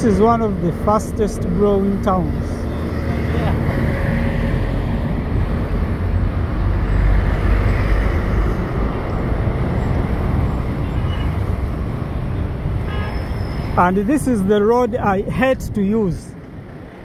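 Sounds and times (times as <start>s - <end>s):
heavy trucks passing: 0.0s - 17.0s
low rumble of engines and tyres: 0.0s - 17.0s
motorcycles passing: 0.0s - 17.0s.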